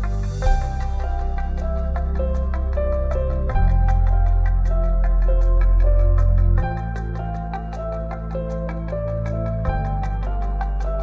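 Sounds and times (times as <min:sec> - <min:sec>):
steady bass: 0:00.0 - 0:11.0.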